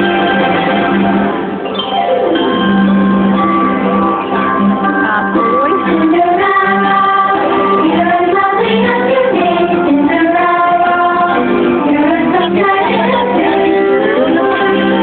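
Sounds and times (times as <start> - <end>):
sustained musical accompaniment: 0.0 - 15.0.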